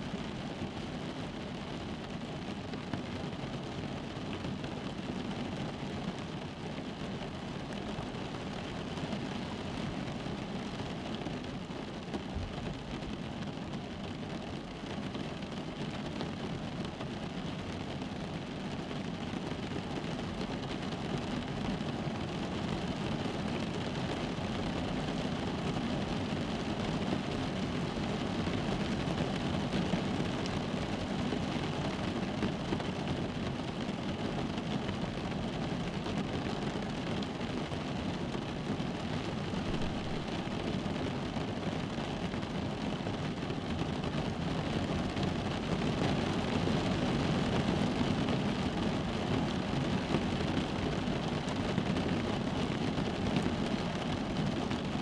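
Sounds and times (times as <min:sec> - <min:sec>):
rain on car roof: 0:00.0 - 0:55.0.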